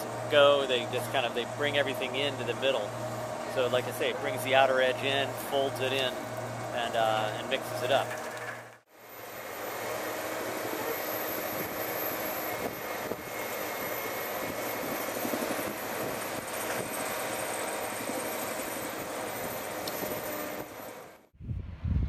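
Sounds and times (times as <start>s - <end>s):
compost turner engine droning: 0.0s - 21.3s.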